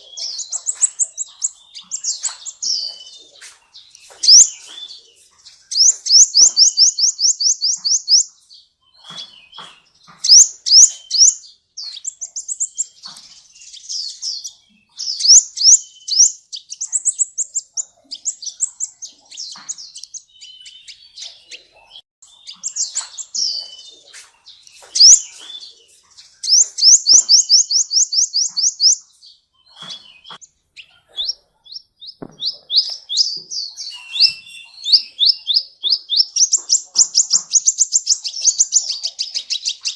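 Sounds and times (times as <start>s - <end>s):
sunbird singing trills: 0.0s - 39.9s.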